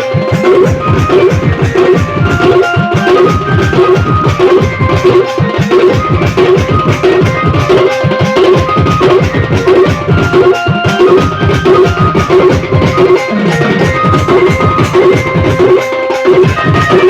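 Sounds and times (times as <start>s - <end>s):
drum beat: 0.0s - 17.0s
held melody line: 0.0s - 17.0s.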